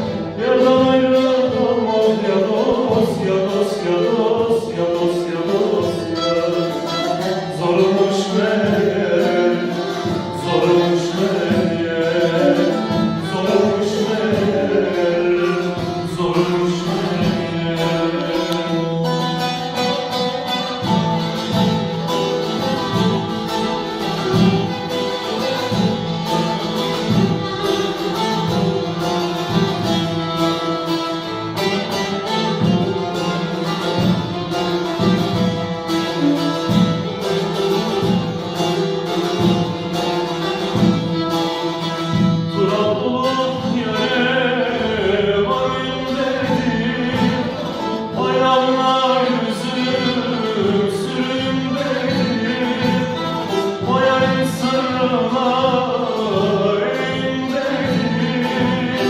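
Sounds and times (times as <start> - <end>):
person singing: 0.0 - 38.1, 40.6 - 59.0
plucked long-necked lute: 0.0 - 59.0.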